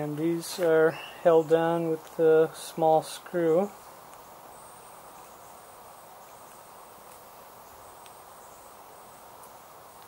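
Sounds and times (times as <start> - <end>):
faint room hiss: 0.0 - 10.0.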